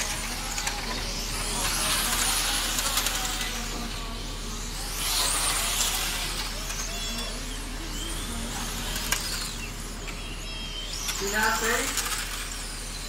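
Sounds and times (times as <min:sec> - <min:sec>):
rc car motors whining: 0:00.0 - 0:13.0.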